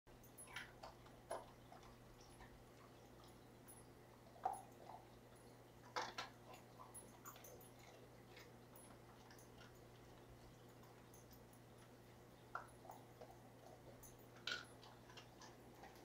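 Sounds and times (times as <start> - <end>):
faint low hum: 0.1 - 16.0.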